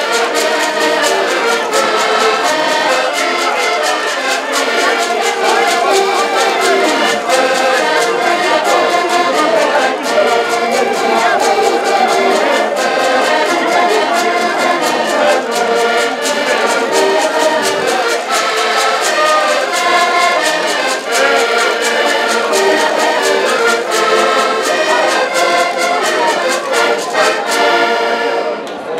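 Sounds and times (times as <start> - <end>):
button accordions playing folk tune: 0.0 - 28.8.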